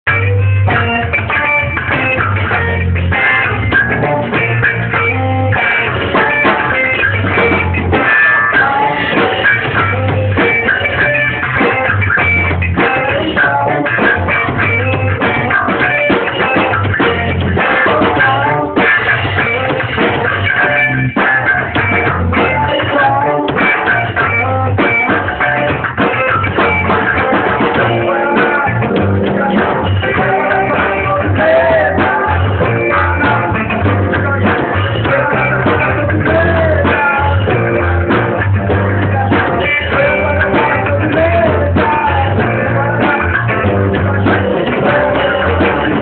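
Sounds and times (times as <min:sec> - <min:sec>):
live rock band playing: 0:00.0 - 0:46.0.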